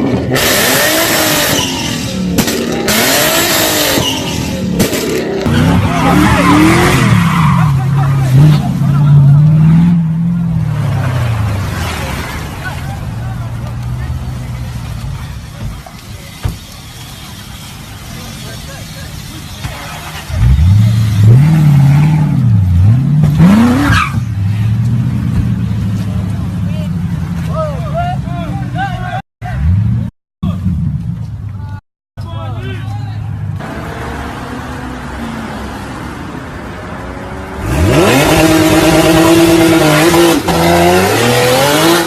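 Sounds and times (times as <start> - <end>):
car engine revving: 0.0 - 15.2, 17.0 - 27.5, 33.5 - 42.0.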